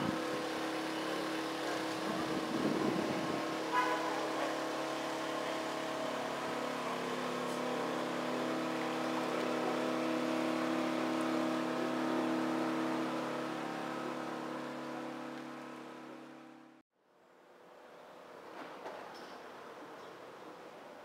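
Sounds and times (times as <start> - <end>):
engine running steadily: 0.0 - 16.8.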